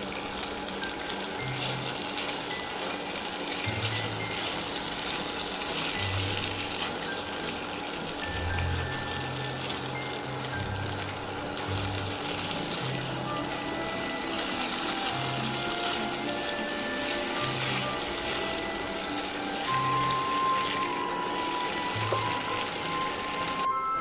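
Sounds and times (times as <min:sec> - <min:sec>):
food sizzling in oil: 0:00.0 - 0:24.0
background music with bass notes: 0:03.5 - 0:24.0.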